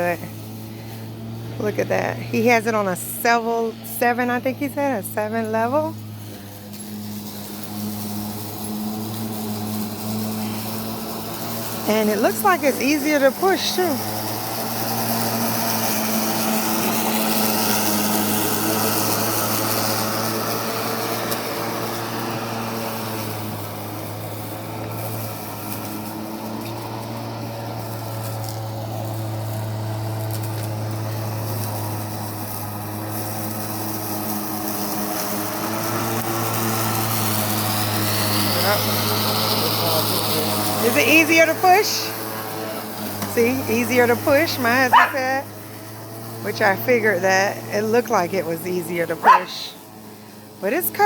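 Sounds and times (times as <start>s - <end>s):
electric lawn mower running: 0.0s - 51.0s.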